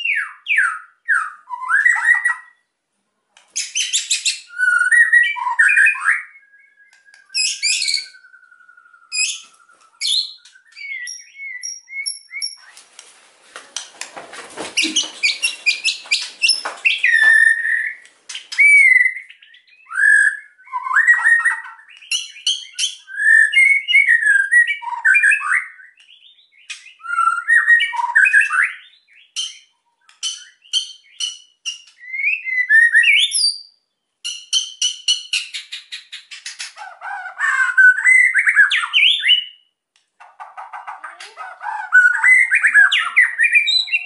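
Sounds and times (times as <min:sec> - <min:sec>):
songbird whistling and ticking: 0:00.0 - 0:02.6, 0:03.6 - 0:12.8, 0:14.8 - 0:44.0.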